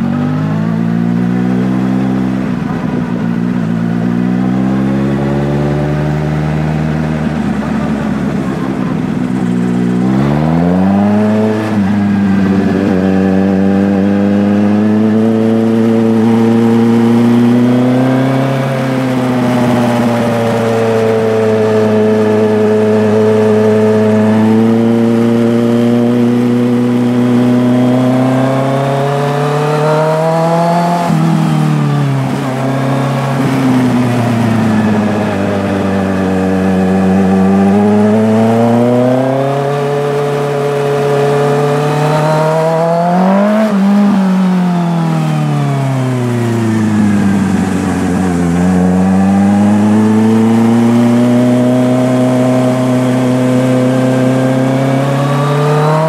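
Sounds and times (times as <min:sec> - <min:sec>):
engine revving up and down: 0:00.0 - 0:56.0.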